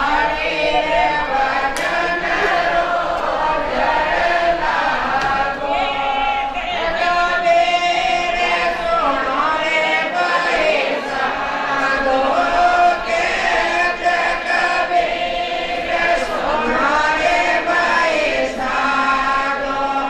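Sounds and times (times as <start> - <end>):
group singing a chant: 0.0 - 20.0.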